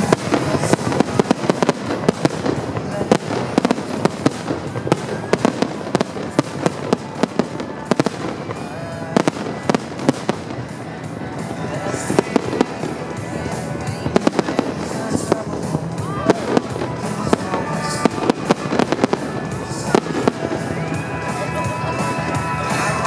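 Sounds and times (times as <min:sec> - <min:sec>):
fireworks bangs: 0:00.0 - 0:23.0
music playing: 0:00.0 - 0:23.0.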